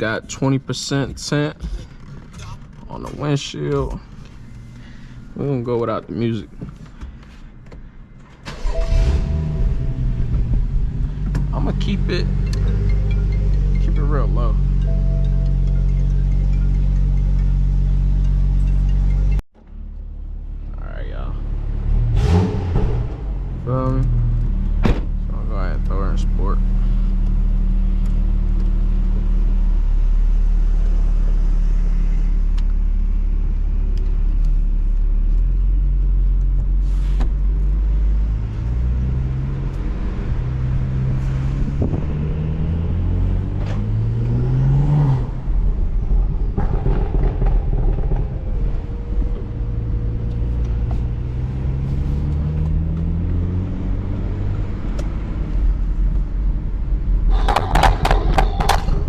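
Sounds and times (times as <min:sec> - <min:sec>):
car engine accelerating: 0:08.5 - 0:59.0.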